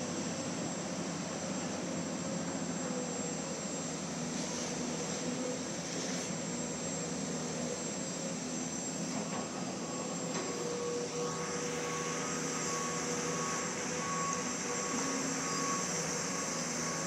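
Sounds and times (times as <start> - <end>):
diesel engines droning: 0.0 - 17.0
hydraulic whine: 0.0 - 17.0.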